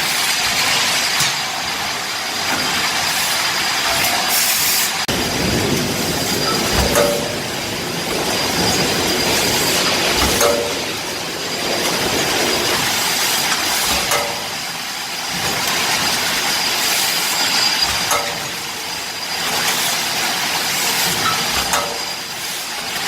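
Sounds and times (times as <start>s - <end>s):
press machine hiss and running noise: 0.0s - 23.0s.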